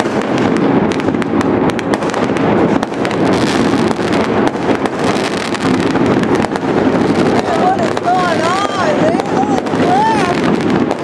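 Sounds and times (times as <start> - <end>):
firecrackers crackling barrage: 0.0 - 11.0
fireworks bangs: 0.0 - 11.0.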